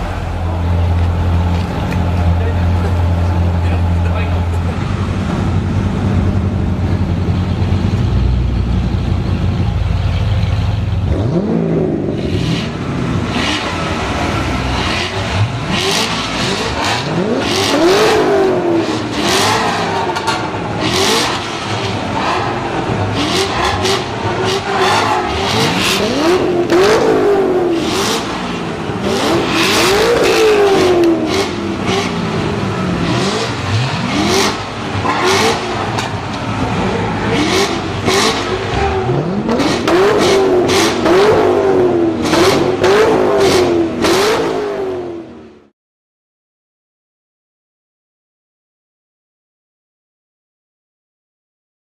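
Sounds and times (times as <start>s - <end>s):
sports car engines idling: 0.0s - 44.2s
sports car engines revving: 0.0s - 45.7s.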